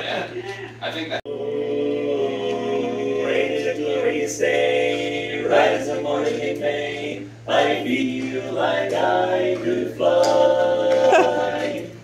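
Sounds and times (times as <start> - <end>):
male quartet singing a cappella: 1.2 - 12.0.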